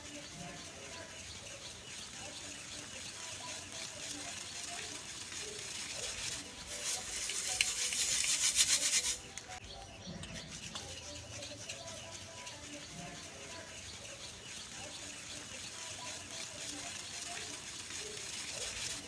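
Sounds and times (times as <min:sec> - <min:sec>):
birds chirping: 0:00.0 - 0:19.0
dry lumps crumbling: 0:00.0 - 0:19.0.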